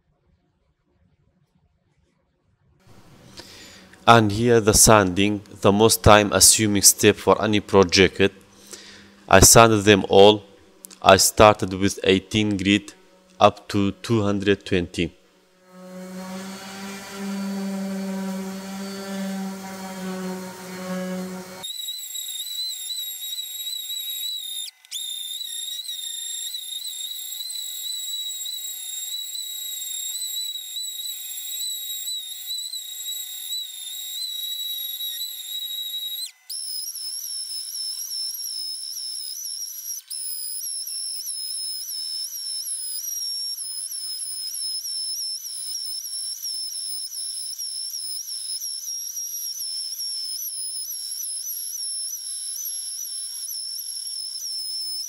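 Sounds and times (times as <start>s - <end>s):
electric sander whining: 2.9s - 55.0s.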